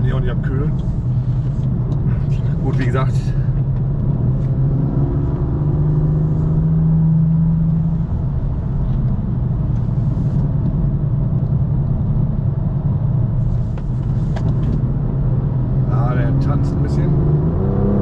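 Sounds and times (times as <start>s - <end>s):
car engine at part throttle: 0.0s - 18.0s
road and tyre rumble: 0.0s - 18.0s.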